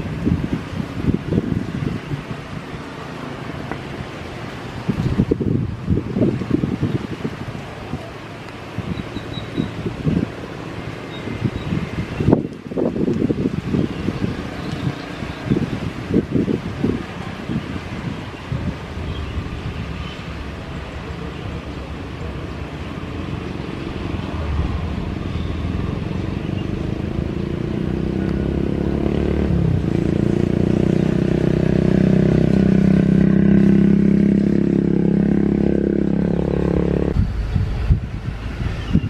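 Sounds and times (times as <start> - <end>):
rushing noise: 0.0 - 30.9, 32.7 - 39.0.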